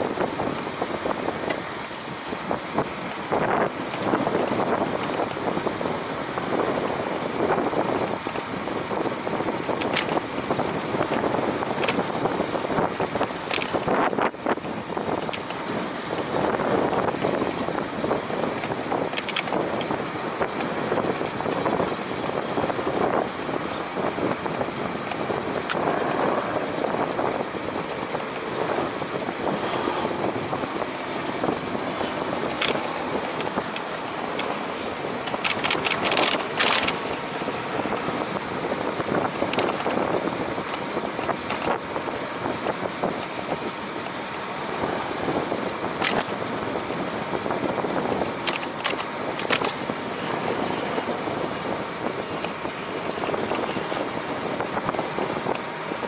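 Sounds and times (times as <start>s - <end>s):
bicycle clicks and rattles: 0.0s - 56.0s
bicycle tyre noise: 0.0s - 56.0s
wind rush: 0.0s - 56.0s.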